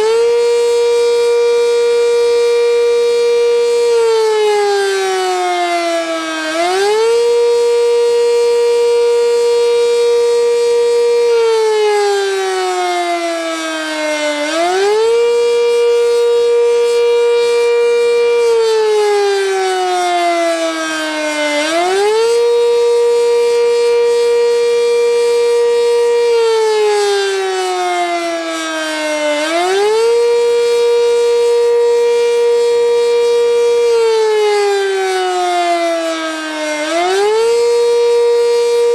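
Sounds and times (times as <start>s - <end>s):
warning siren rising and falling: 0.0s - 38.9s.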